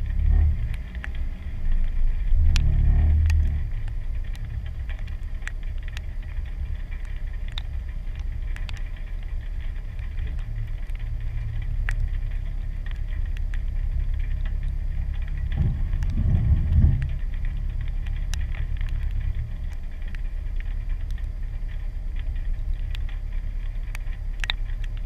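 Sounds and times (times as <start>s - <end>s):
car engine idling: 0.0s - 25.0s
light ticks: 0.0s - 25.0s.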